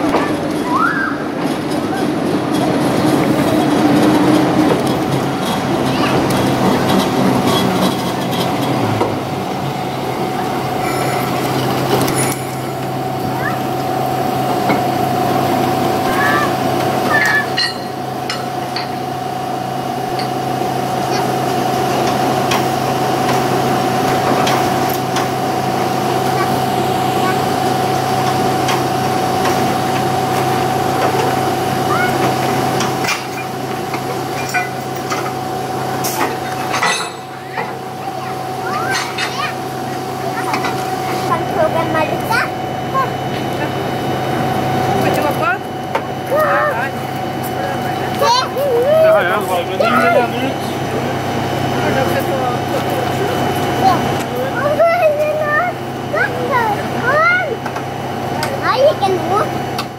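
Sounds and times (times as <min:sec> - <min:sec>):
electric locomotive hum and whine: 0:00.0 - 0:59.9
wheels rumbling on rails: 0:00.0 - 0:59.9.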